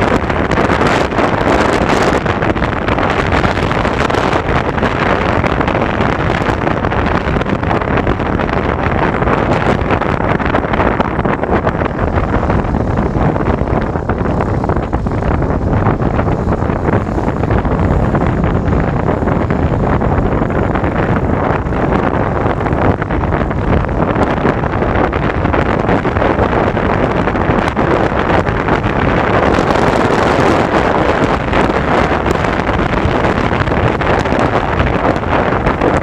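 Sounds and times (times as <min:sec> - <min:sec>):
motorcycle riding noise: 0:00.0 - 0:36.0
wind rushing over microphone: 0:00.0 - 0:36.0.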